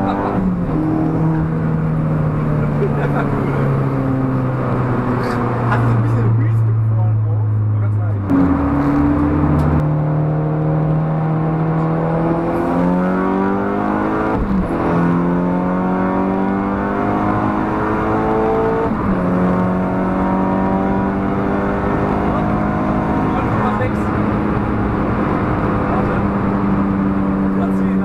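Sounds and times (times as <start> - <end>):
car engine accelerating through gears: 0.0 - 28.0.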